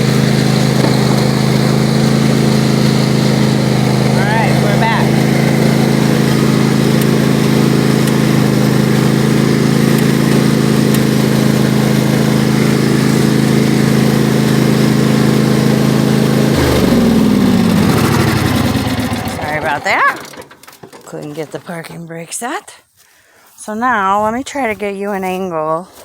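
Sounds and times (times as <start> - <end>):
riding lawnmower engine running: 0.0 - 22.5.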